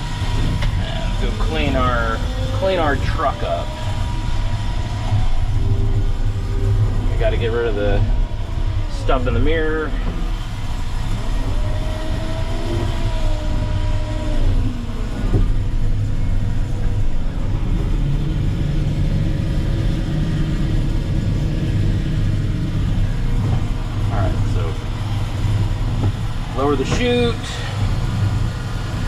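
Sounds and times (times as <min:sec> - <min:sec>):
diesel truck engine running: 0:00.0 - 0:29.0
engine whine rising and falling: 0:00.0 - 0:29.0.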